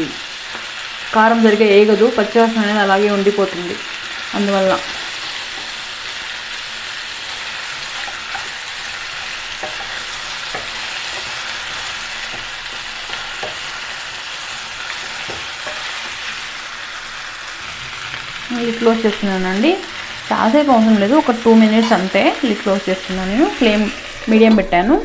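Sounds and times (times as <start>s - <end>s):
chicken sizzling in a pan: 0.0s - 24.6s.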